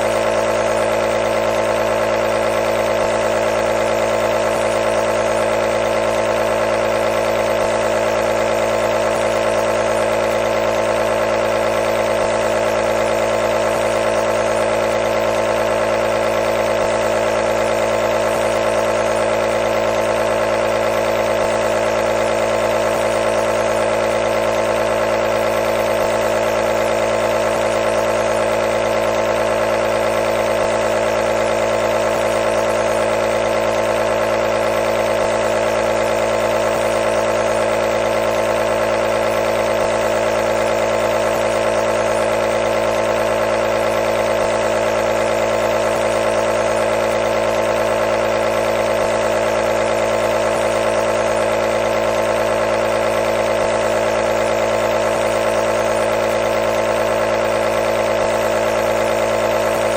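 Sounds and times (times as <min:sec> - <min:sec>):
nebulizer motor hum: 0:00.0 - 0:59.9.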